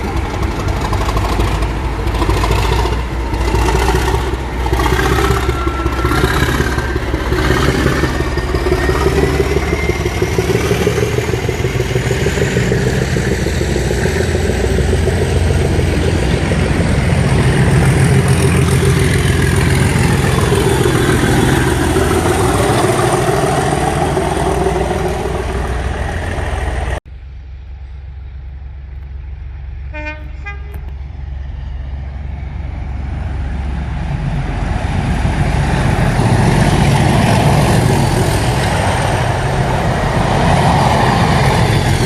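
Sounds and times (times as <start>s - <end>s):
diesel locomotive engine running: 0.0s - 42.0s.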